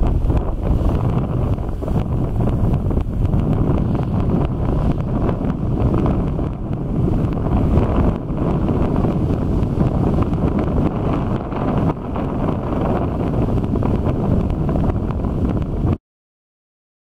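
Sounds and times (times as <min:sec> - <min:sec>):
surf breaking: 0:00.0 - 0:16.0
wind buffeting microphone: 0:00.0 - 0:16.0.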